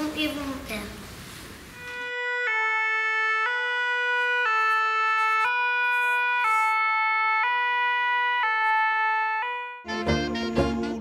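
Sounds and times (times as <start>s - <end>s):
fire engine two-tone siren: 1.8s - 10.8s.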